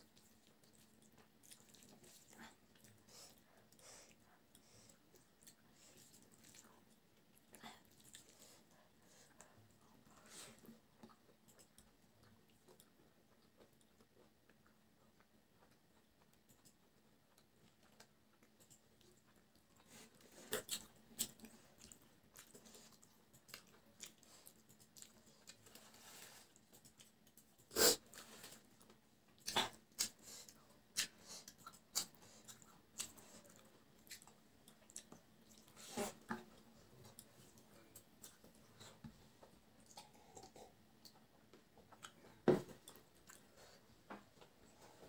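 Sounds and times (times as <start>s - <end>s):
person chewing and mouth smacks: 0.1s - 8.7s, 9.3s - 43.8s.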